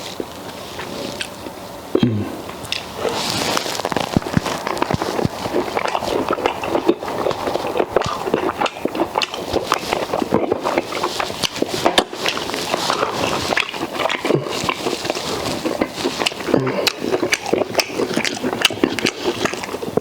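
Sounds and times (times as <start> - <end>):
person chewing and smacking: 0.0 - 1.6, 2.5 - 20.0
mouth clicks: 2.0 - 20.0.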